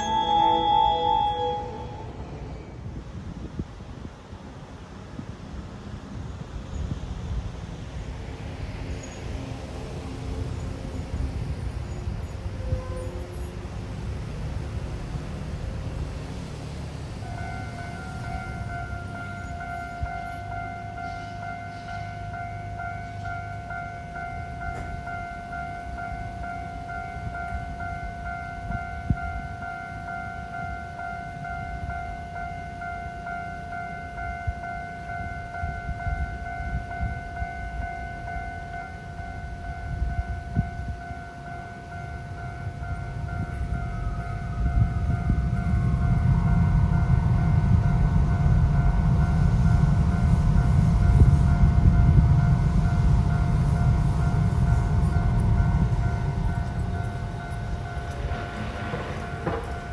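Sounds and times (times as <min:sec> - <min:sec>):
railroad crossing warning bell: 0:00.0 - 0:59.9
streetcar rumbling: 0:00.0 - 0:59.9.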